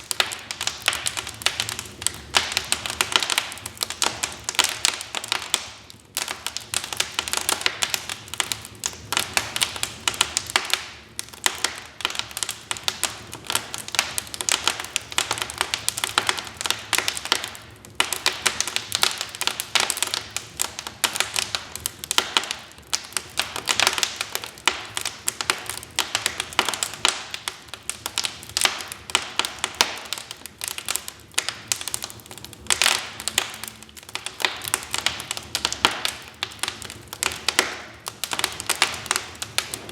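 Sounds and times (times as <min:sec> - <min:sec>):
wood fire popping and snapping: 0:00.0 - 0:39.9.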